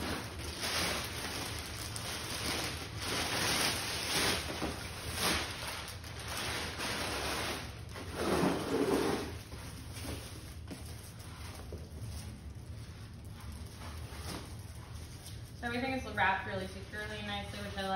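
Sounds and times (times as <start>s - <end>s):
plastic wrapping crinkling: 0.0s - 17.9s.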